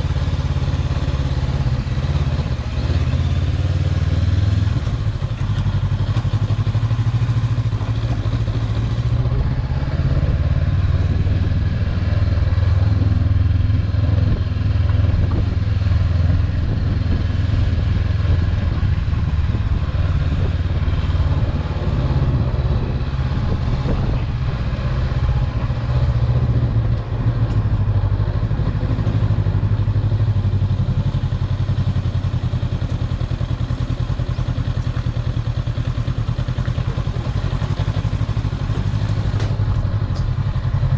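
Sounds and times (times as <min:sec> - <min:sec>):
road noise: 0:00.0 - 0:40.9
vehicle engine hum: 0:00.0 - 0:40.9.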